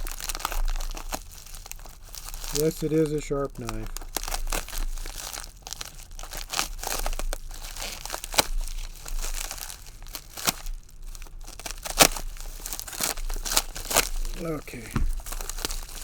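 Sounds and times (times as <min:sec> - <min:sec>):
packaging crinkling and tearing: 0:00.0 - 0:16.0.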